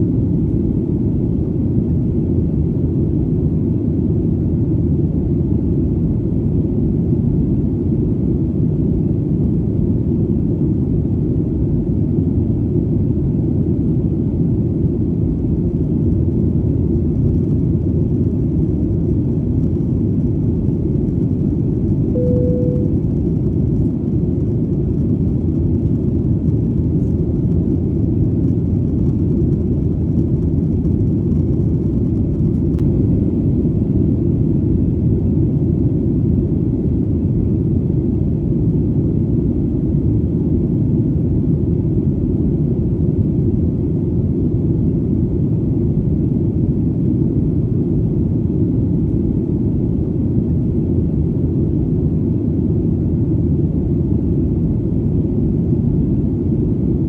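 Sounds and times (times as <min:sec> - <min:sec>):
airplane engine rumble: 0:00.0 - 0:57.0.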